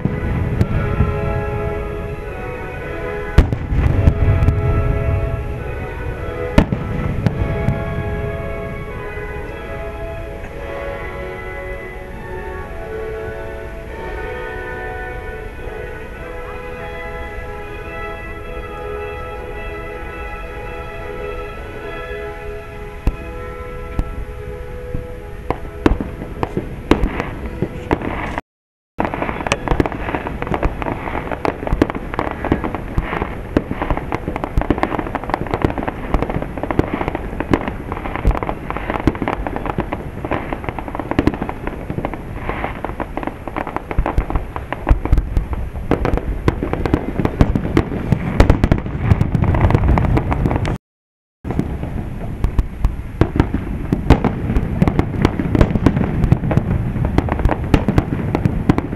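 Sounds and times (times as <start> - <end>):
fireworks bangs and crackle: 0.0 - 24.4, 25.0 - 28.4, 29.0 - 50.8, 51.4 - 58.9
deep fireworks booms: 0.0 - 28.4, 29.0 - 50.8, 51.4 - 58.9.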